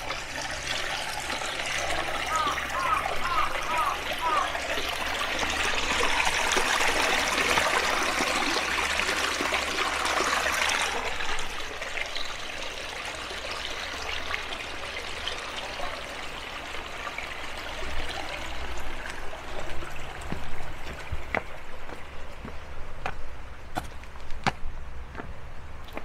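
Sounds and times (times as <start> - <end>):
stream water rushing: 0.0 - 24.3.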